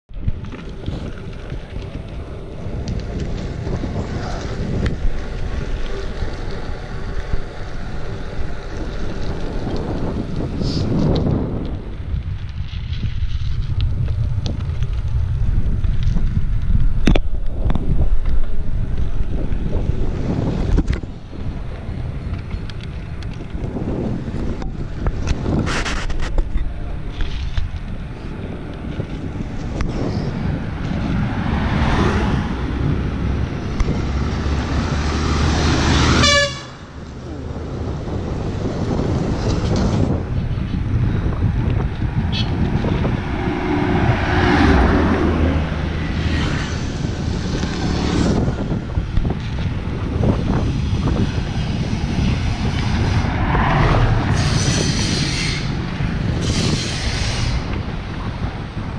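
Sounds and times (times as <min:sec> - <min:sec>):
road and tyre rumble: 0:00.0 - 0:58.9
wind buffeting microphone: 0:00.1 - 0:58.9.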